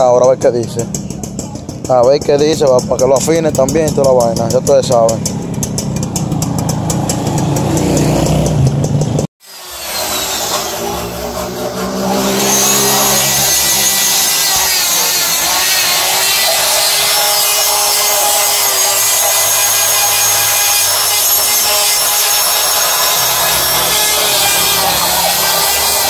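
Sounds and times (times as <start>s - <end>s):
die grinder grinding metal: 0.0s - 26.0s.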